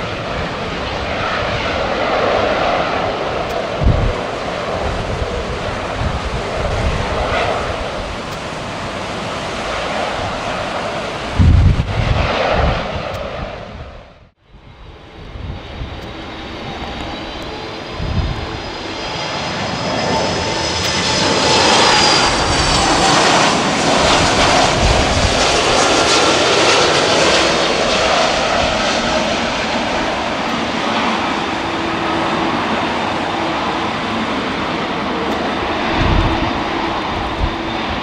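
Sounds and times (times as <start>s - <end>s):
jet departure noise: 0.0s - 38.0s
jet engines rushing and whining: 0.0s - 38.0s
wind on microphone: 0.0s - 38.0s.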